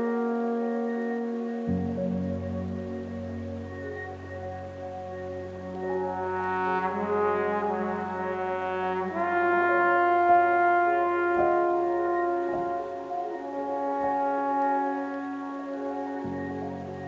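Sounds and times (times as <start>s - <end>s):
sustained brass-like chords: 0.0s - 17.0s.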